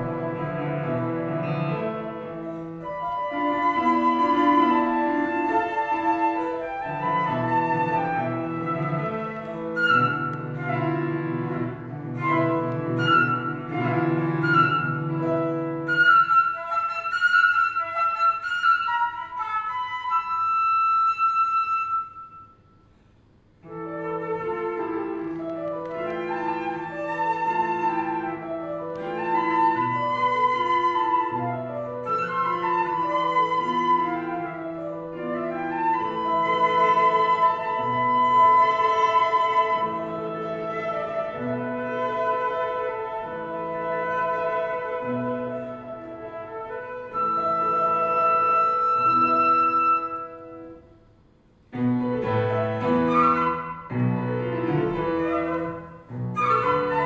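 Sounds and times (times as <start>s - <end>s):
flute: 0.0s - 22.8s, 23.6s - 51.0s, 52.0s - 57.0s
grand piano: 0.0s - 57.0s.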